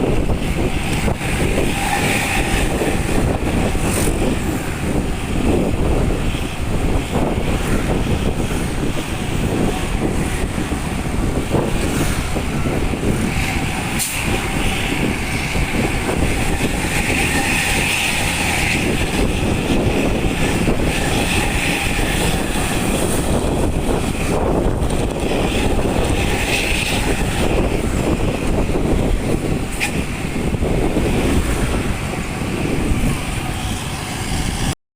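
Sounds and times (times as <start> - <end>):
bus diesel engine running: 0.0 - 34.8.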